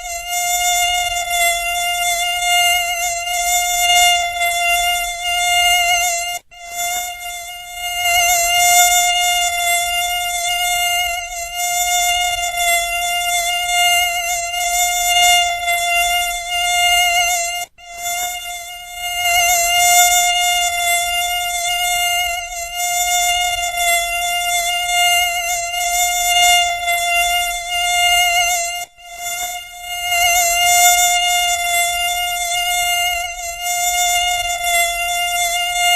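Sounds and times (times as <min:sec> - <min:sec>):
mosquito buzzing: 0:00.0 - 0:35.9.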